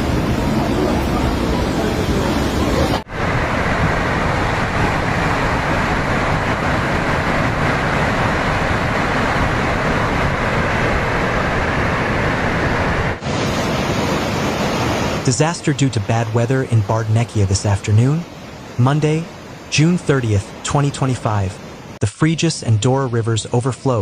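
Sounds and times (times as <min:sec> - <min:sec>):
rushing river roar: 0:00.0 - 0:24.0.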